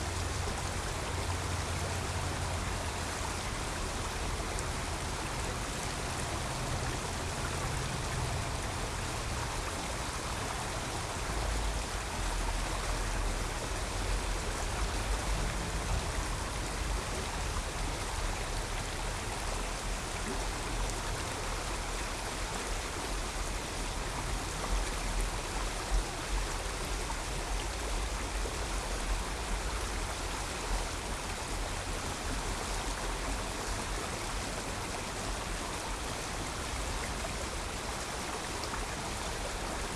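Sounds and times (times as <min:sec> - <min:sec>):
creek water rushing: 0:00.0 - 0:39.9
low rumble of road traffic: 0:00.0 - 0:39.9.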